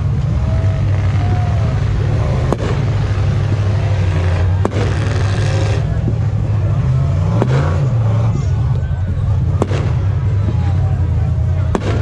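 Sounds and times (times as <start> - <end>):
crowd chatter: 0.0 - 12.0
race vehicle engines rumbling: 0.0 - 12.0.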